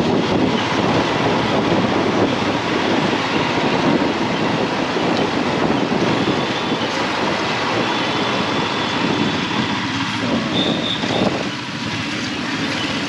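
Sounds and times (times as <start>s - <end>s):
motorcycle riding noise: 0.0s - 13.0s.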